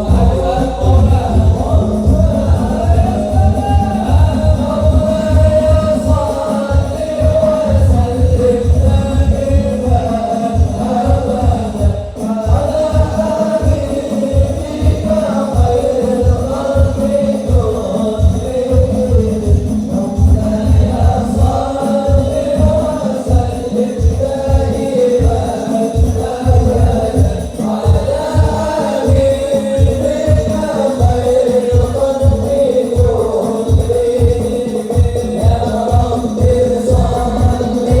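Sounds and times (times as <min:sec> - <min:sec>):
frame drums: 0:00.0 - 0:38.0
heavy bass drum beat: 0:00.0 - 0:38.0
voices singing devotional melody: 0:00.0 - 0:38.0.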